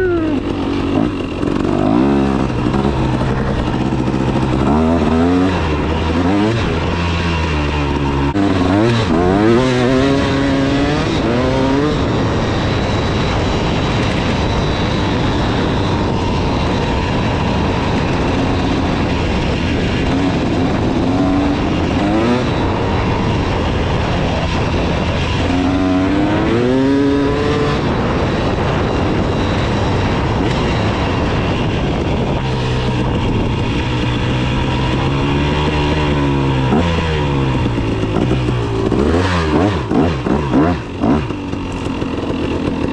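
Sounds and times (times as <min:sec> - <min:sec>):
dirt bike engine revving: 0:00.0 - 0:42.9
steady rush of noise: 0:00.0 - 0:42.9.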